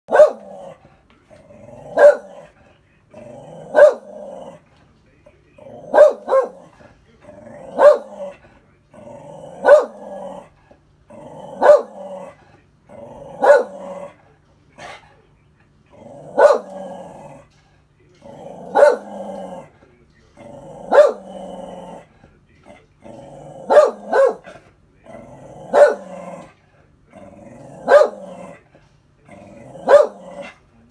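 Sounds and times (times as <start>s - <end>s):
dog growling and barking: 0.1s - 4.8s, 5.6s - 15.1s, 15.9s - 17.6s, 18.2s - 19.8s, 20.4s - 30.9s.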